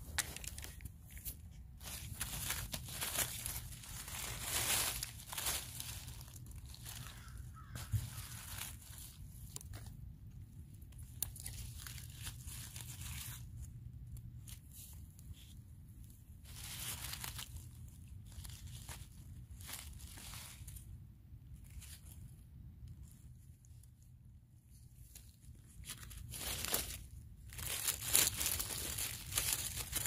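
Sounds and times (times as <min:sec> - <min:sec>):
dry leaves rustling: 0:00.0 - 0:10.0, 0:10.6 - 0:21.0, 0:21.6 - 0:22.4, 0:24.7 - 0:30.0.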